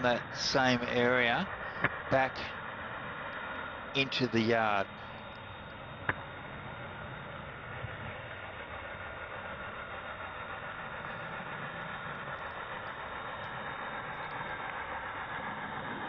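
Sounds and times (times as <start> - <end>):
model train running hiss: 0.0 - 16.0.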